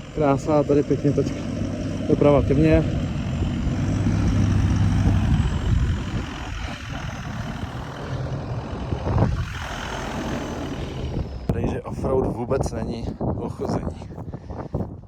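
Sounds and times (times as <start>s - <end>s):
car engine running: 0.0s - 14.8s.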